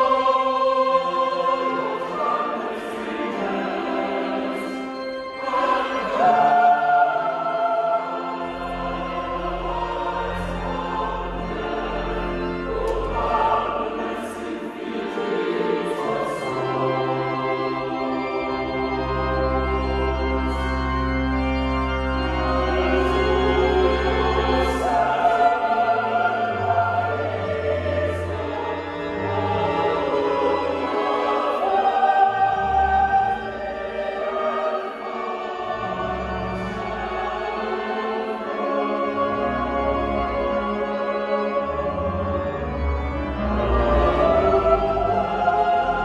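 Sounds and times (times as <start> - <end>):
mixed choir singing: 0.0 - 46.0
organ accompaniment: 0.0 - 46.0.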